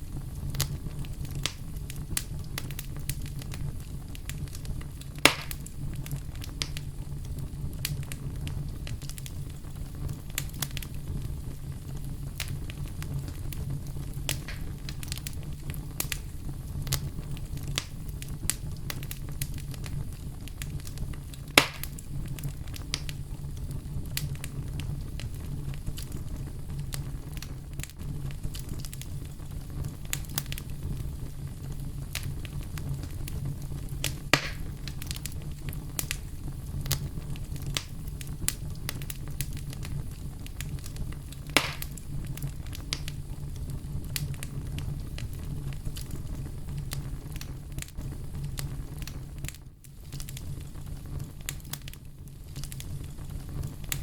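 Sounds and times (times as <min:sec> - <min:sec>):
bonfire crackling: 0:00.0 - 0:54.0
sharp pops of fire: 0:00.0 - 0:54.0.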